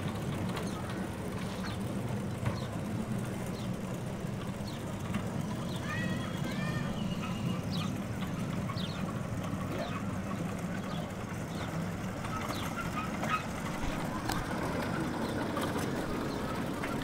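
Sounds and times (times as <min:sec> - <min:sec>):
kiddie ride humming: 0:00.0 - 0:17.0.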